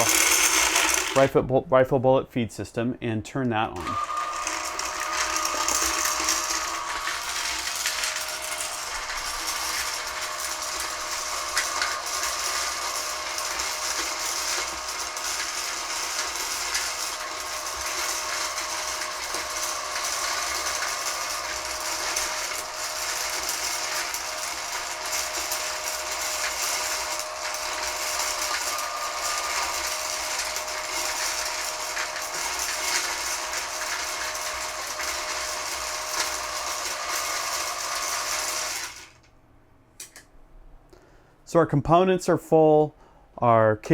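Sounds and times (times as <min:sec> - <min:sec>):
motor hum: 0:00.0 - 0:01.3, 0:03.8 - 0:39.3.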